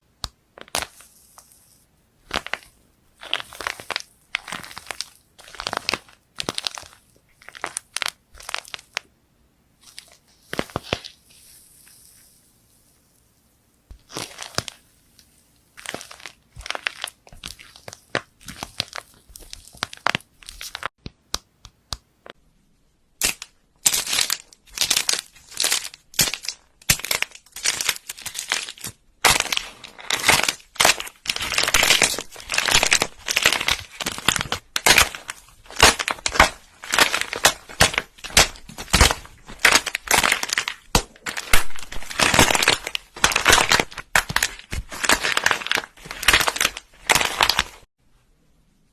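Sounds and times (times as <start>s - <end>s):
slime crackling and crunching: 0.6s - 9.1s, 9.8s - 13.0s, 13.9s - 20.9s, 23.2s - 47.9s.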